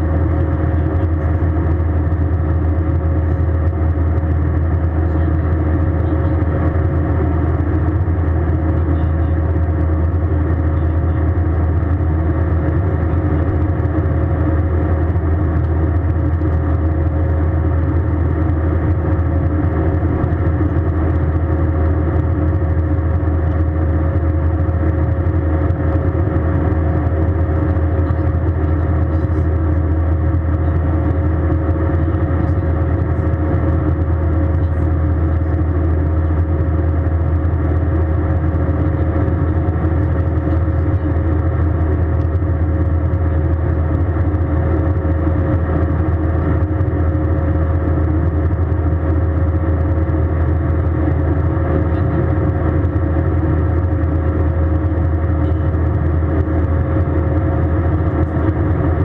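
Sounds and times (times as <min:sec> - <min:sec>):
jet engines and airflow drone: 0:00.0 - 0:59.0
low hum: 0:00.0 - 0:59.0
thin steady whine: 0:00.0 - 0:59.0.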